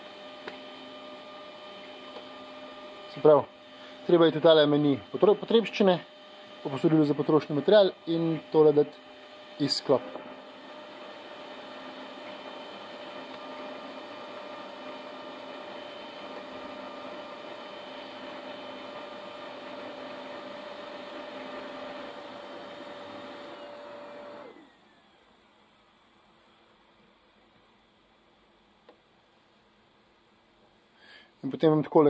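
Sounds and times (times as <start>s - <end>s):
printer motors and fan whirring: 0.0s - 29.1s.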